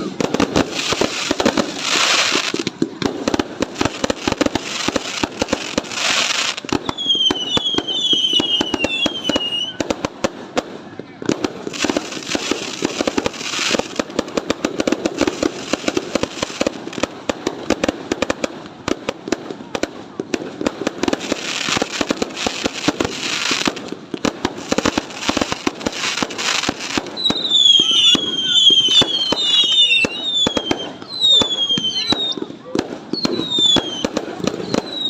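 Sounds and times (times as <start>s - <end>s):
fireworks crackling and banging: 0.0s - 35.0s
fireworks falling whistles: 0.0s - 35.0s.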